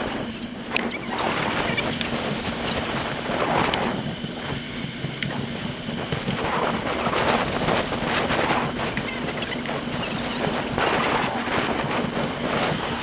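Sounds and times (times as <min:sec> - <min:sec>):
bike clicks and rattles: 0:00.0 - 0:13.0
wind rushing over microphone: 0:00.0 - 0:13.0.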